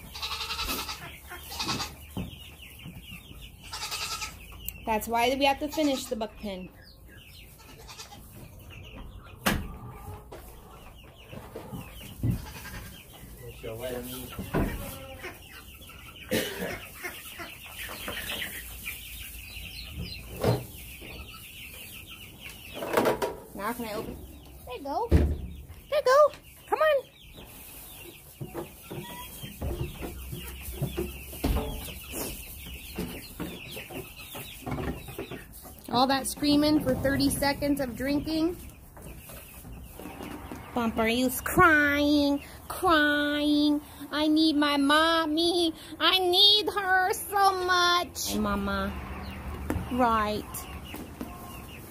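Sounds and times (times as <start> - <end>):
baby chicks peeping: 0.0 - 51.9.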